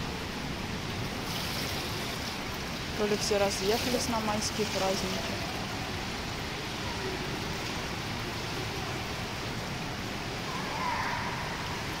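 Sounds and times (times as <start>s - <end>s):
hiss of moving pool water: 0.1s - 12.0s.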